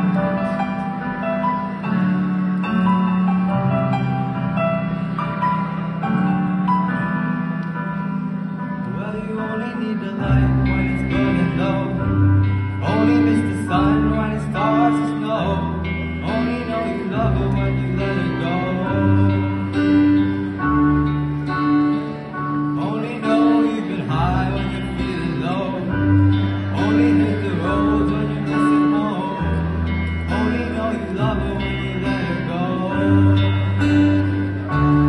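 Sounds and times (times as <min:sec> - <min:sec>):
acoustic guitar: 0:00.0 - 0:35.0
electric guitar: 0:00.0 - 0:35.0
low bass notes: 0:00.0 - 0:35.0.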